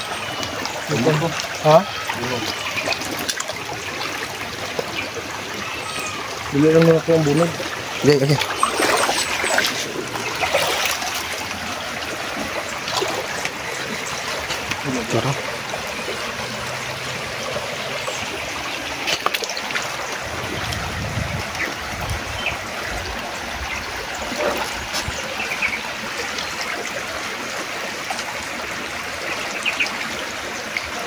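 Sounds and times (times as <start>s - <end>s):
splashes from wading: 0.0s - 31.0s
stream rushing over rocks: 0.0s - 31.0s.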